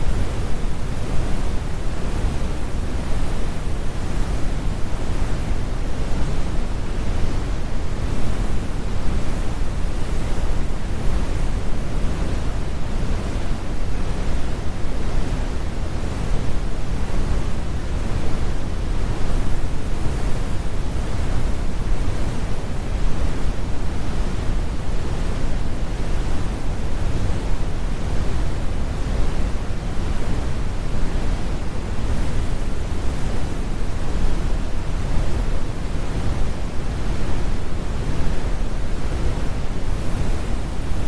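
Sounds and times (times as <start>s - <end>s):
brown noise rumble: 0.0s - 41.0s.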